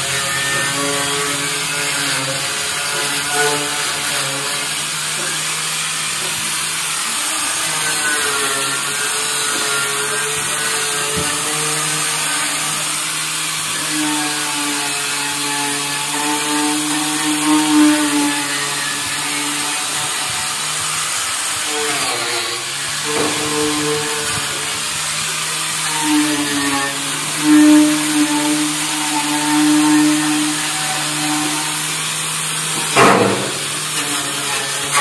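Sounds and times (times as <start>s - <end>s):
power tool scraping rusty metal: 0.0s - 35.0s.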